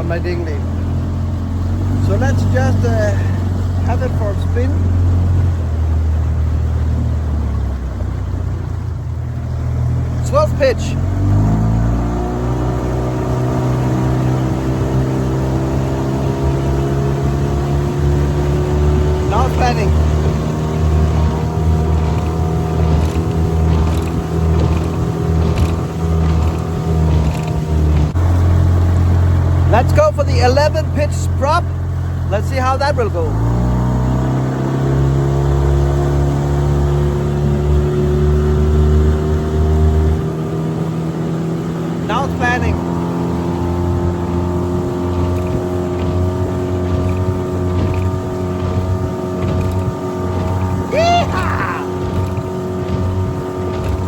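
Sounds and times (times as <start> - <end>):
deep rumble: 0.0 - 33.3, 43.4 - 54.0
outboard motor revving: 0.0 - 54.0.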